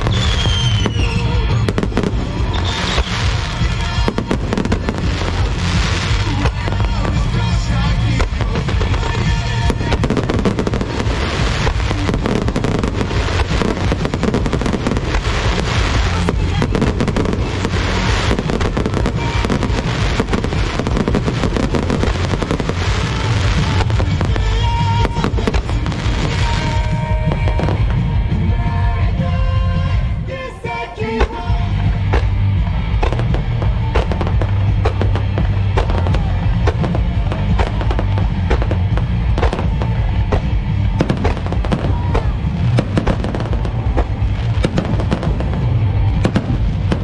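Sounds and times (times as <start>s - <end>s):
fireworks bursts and crackling: 0.0s - 47.0s
music playing: 0.0s - 47.0s.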